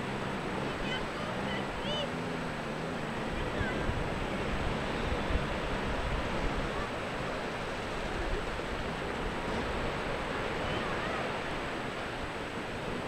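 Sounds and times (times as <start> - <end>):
surf washing on beach: 0.0 - 13.0
wind on microphone: 0.0 - 13.0.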